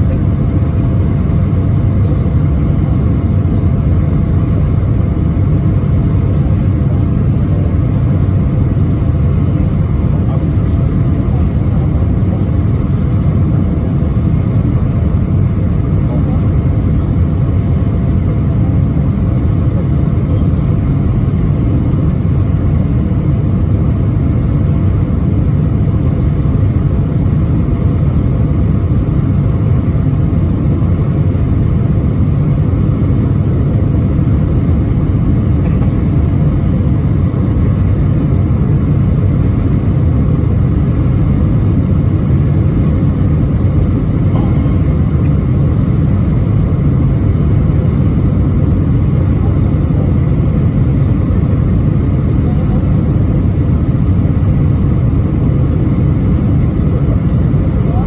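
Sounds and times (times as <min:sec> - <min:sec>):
airliner cabin rumble: 0:00.0 - 0:58.0
faint steady hums: 0:00.0 - 0:58.0.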